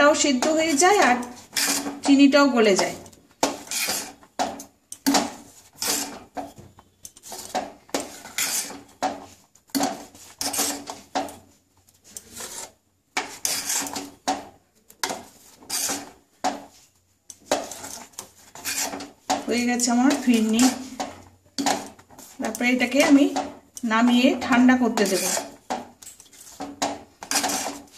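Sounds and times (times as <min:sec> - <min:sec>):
spoon scraping metal pot: 0:00.0 - 0:27.9.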